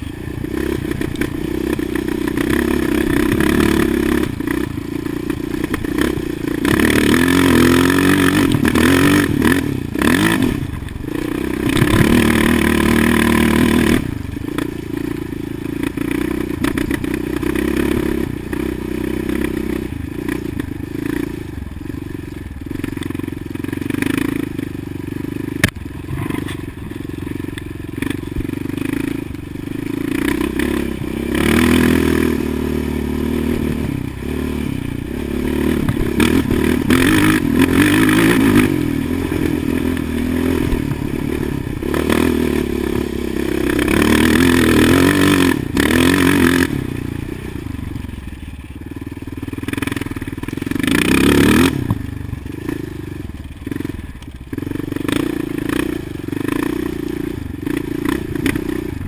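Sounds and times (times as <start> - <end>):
quad engine revving: 0.0 - 59.0.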